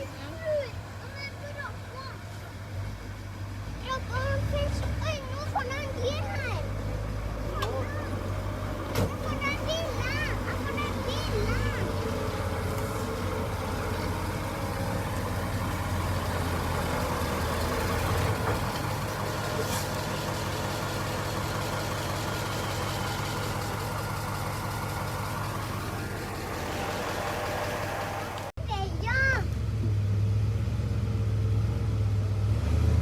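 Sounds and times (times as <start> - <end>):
diesel engine rumbling: 0.0 - 33.0.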